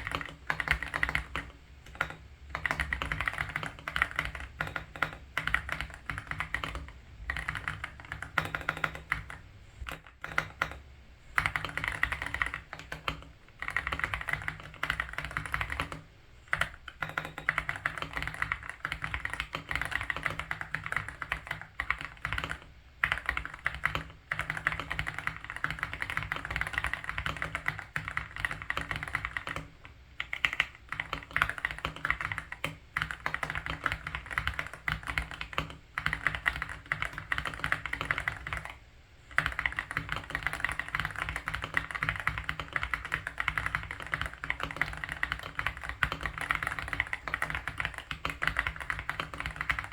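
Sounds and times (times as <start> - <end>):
fast keyboard typing: 0.0 - 49.9.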